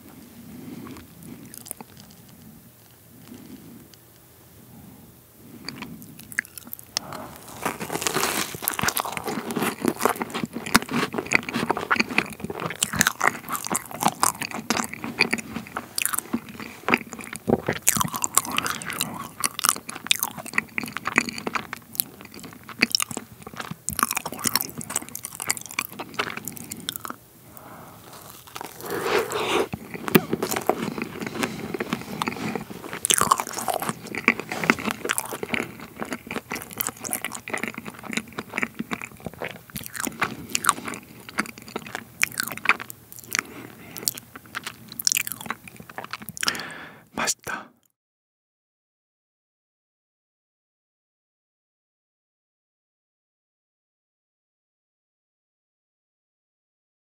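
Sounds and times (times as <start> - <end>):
meringue crunching while chewing: 0.0 - 4.3, 5.6 - 47.6.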